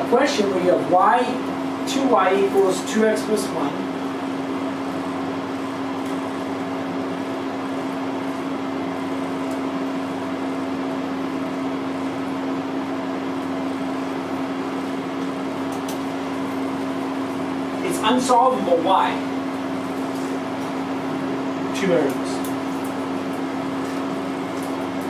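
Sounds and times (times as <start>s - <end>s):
ventilation hum and hiss: 0.0s - 25.0s.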